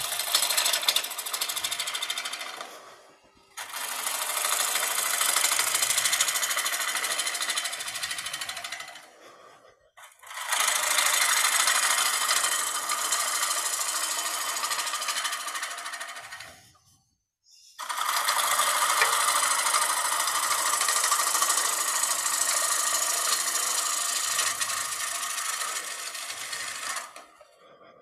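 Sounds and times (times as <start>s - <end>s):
gouge cutting wood on lathe: 0.0s - 16.8s, 17.8s - 28.0s.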